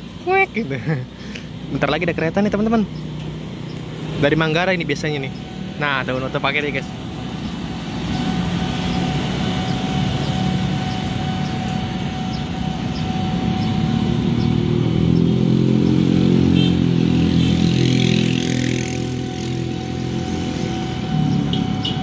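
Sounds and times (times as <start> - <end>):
motorcycles passing: 0.0 - 22.0
railway crossing warning alarm: 4.2 - 22.0.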